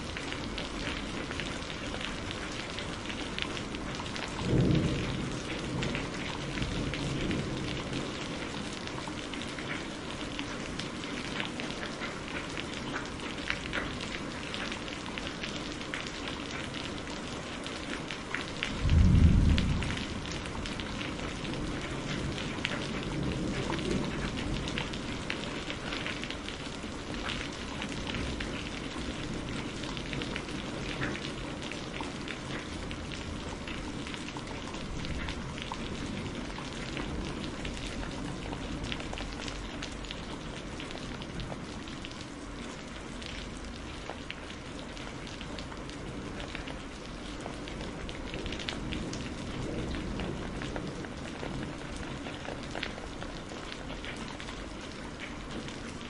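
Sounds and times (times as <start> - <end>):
close raindrop impacts: 0.0 - 56.0
steady rain falling: 0.0 - 56.0.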